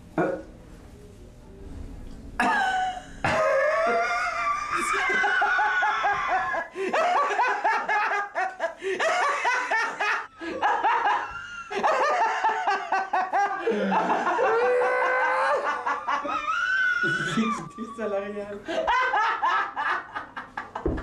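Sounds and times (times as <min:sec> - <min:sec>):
men laughing hard: 0:02.4 - 0:17.7, 0:18.6 - 0:21.0.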